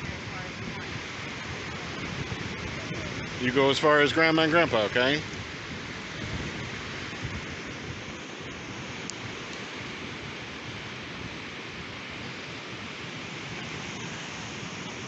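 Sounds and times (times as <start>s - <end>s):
ocean surf on beach: 0.0s - 15.0s
wind: 0.0s - 15.0s.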